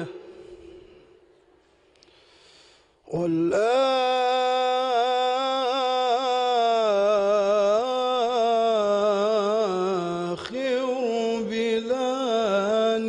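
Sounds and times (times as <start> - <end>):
man chanting: 0.0 - 1.2, 3.1 - 13.0.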